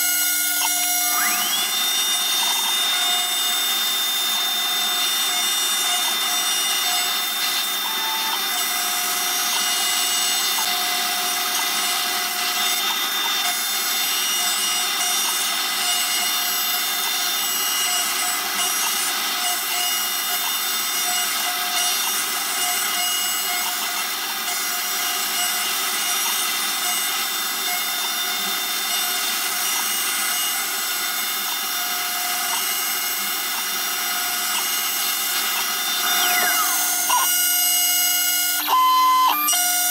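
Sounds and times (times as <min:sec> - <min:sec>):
router spindle milling whine: 0:00.0 - 0:39.9.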